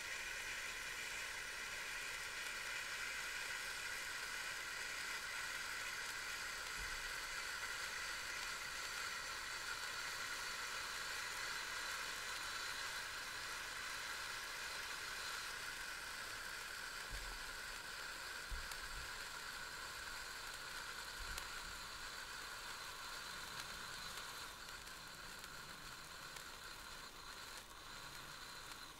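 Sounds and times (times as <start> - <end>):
sparkler fountains hissing: 0.0 - 28.9.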